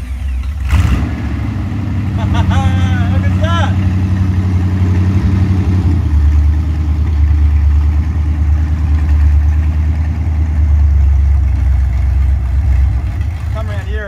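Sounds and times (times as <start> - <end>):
car engine idling through open headers: 0.0 - 14.0.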